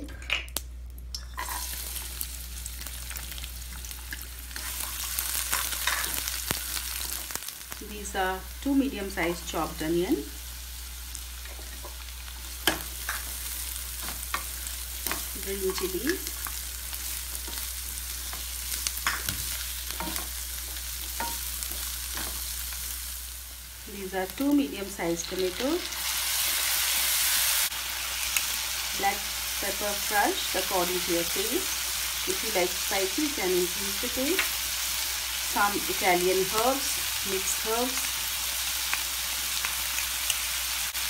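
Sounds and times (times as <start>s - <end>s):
garlic sizzling in oil: 1.1s - 41.0s.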